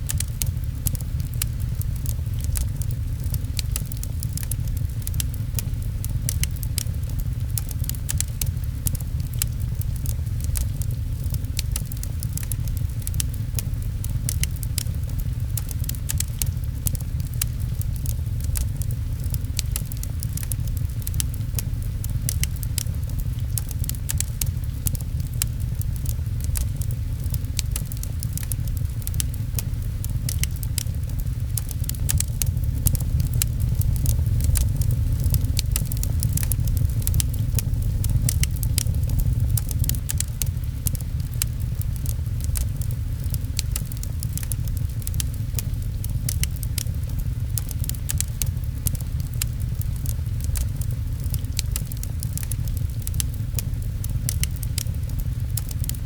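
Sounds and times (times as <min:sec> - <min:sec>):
fireplace crackling and popping: 0:00.0 - 0:56.0
low rumble: 0:00.0 - 0:56.0
rain pattering: 0:00.0 - 0:56.0.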